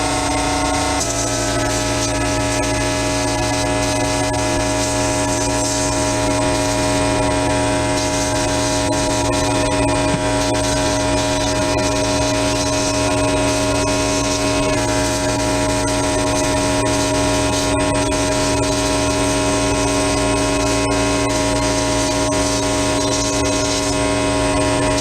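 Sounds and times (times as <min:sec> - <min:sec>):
shop machine humming: 0:00.0 - 0:25.0.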